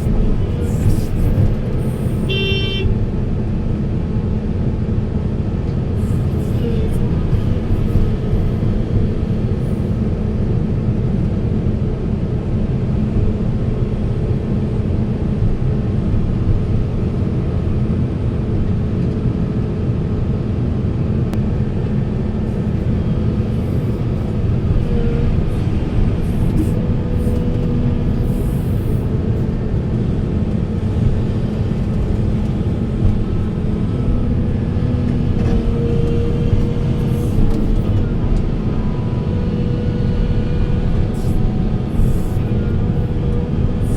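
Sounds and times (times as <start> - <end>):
excavator diesel engine rumbling: 0.0 - 17.7, 20.5 - 43.9.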